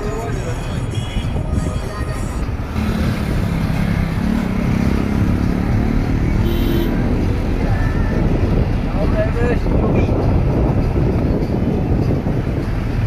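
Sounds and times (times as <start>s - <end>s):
road rumble: 0.0s - 13.0s
vehicle engine drone: 0.0s - 13.0s.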